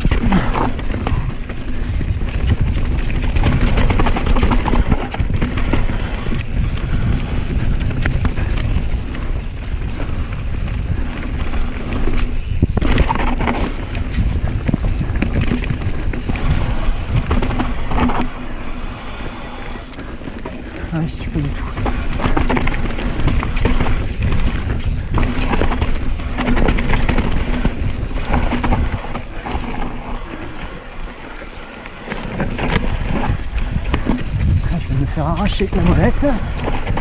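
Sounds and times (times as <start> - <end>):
bike rattling over bumps: 0.0 - 37.0
bike tyres rolling over dirt: 0.0 - 37.0
wind on microphone: 0.0 - 37.0.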